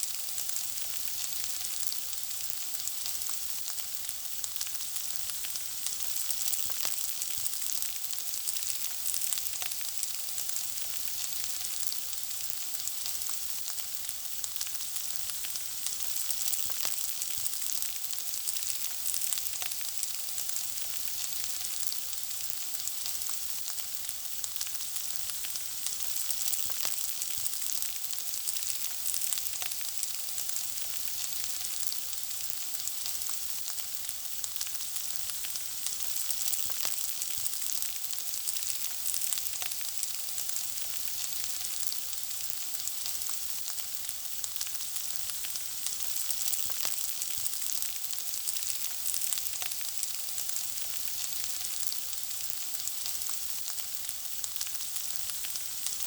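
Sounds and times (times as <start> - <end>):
food frying in hot oil: 0.0 - 56.0.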